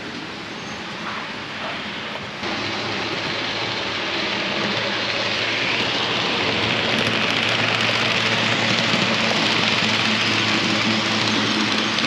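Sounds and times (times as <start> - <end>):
model train rolling on track: 0.0 - 12.0.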